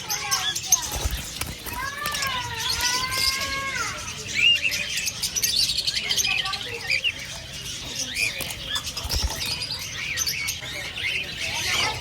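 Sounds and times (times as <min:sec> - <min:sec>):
parrots chirping and squawking: 0:00.0 - 0:12.0.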